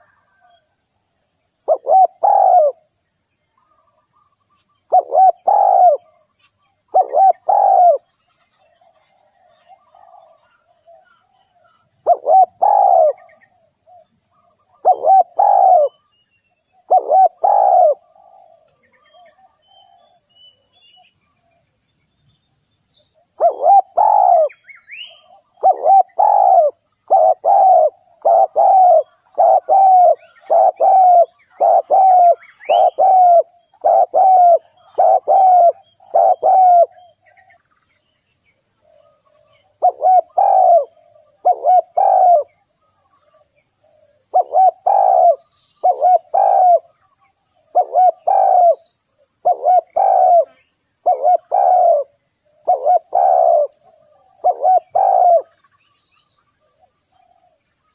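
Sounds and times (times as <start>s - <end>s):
dove cooing: 0.0s - 0.7s, 1.6s - 3.0s, 4.8s - 16.1s, 16.7s - 20.3s, 23.2s - 37.6s, 38.8s - 55.7s.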